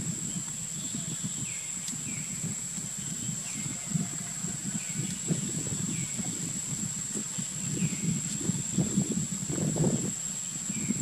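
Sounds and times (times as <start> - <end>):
steady high-pitched whine: 0.0 - 11.0.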